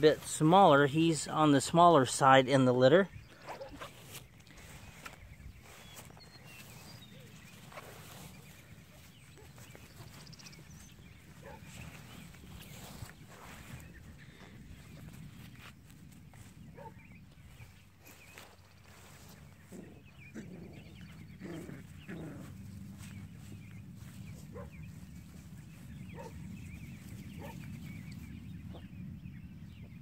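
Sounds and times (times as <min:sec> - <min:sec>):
wind rumble on microphone: 0:03.0 - 0:30.0.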